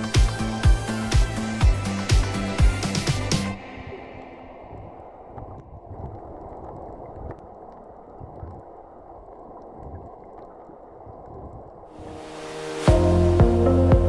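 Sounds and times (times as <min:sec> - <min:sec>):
muffled underwater wash: 0:00.0 - 0:14.0
low rumbling: 0:02.3 - 0:14.0.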